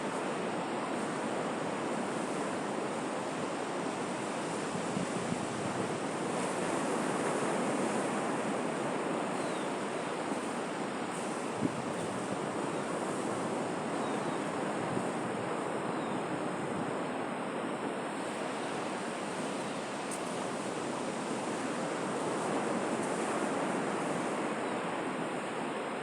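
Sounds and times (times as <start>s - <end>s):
sea surf washing in: 0.0s - 26.0s.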